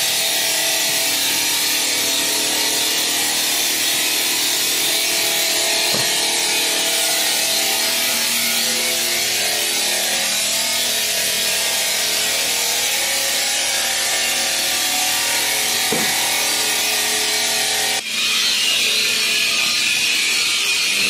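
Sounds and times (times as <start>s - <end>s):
circular saw blade cutting stone: 0.0s - 21.0s.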